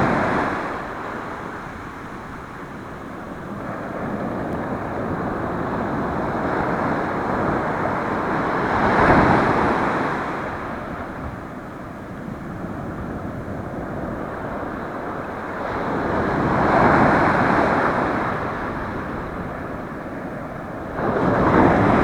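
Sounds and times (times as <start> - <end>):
ocean surf washing on shore: 0.0 - 22.0
wind rumbling on microphone: 0.0 - 22.0.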